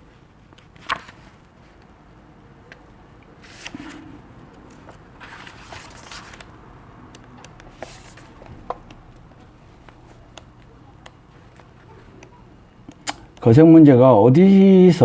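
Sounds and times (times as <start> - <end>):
soft rustling and handling: 0.0 - 13.6.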